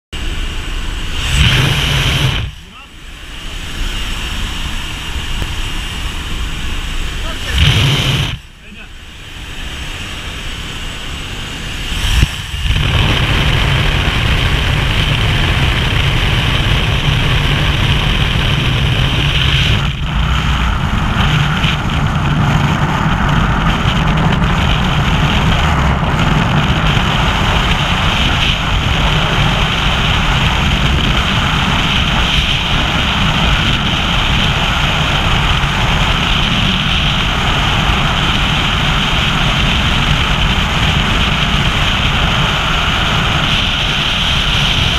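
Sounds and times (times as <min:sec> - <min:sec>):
aircraft cabin and engine noise: 0:00.2 - 0:44.9
wind roaring over microphone: 0:00.2 - 0:44.9.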